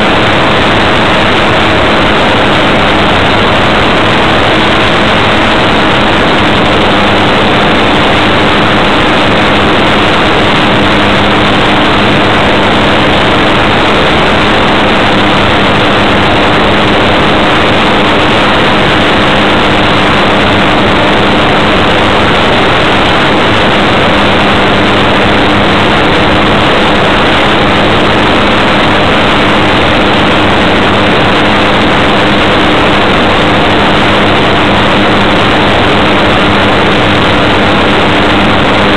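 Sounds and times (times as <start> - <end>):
faint steady hum: 0.0 - 38.9
model airplane airflow rush: 0.0 - 38.9.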